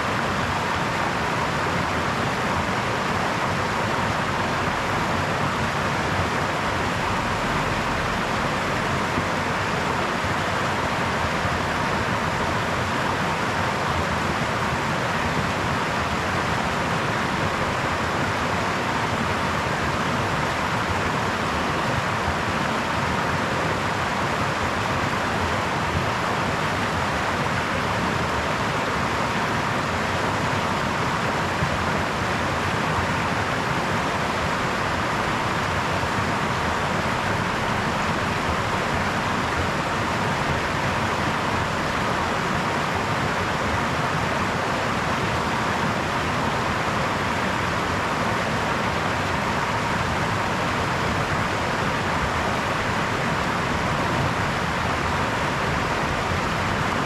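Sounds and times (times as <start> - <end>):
brook water flowing: 0.0 - 57.0.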